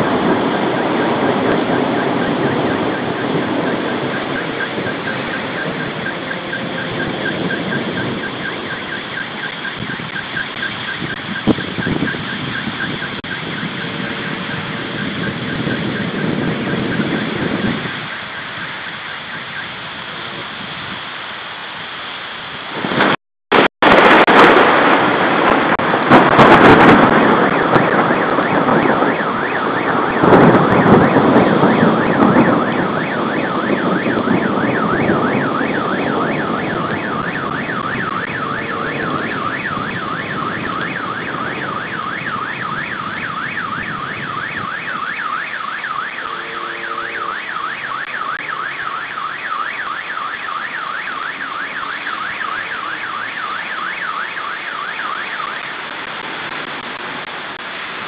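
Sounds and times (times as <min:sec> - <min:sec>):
car alarm warbling: 0:00.0 - 0:21.0, 0:22.8 - 0:58.0
rain: 0:00.0 - 0:58.0
wind: 0:00.0 - 0:58.0.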